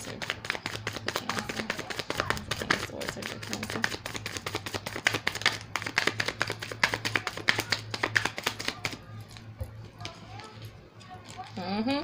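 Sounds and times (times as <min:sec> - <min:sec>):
cards being shuffled: 0:00.0 - 0:11.6.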